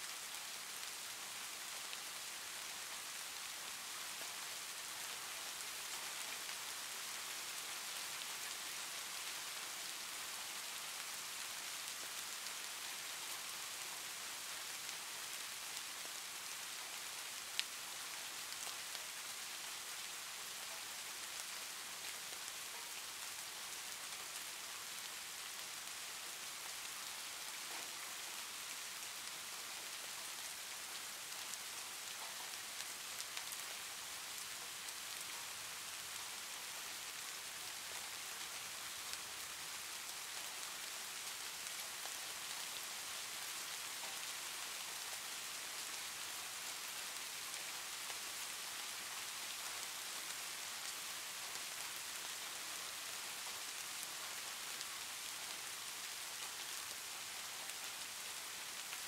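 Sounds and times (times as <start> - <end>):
soft steady rain: 0.0 - 59.0.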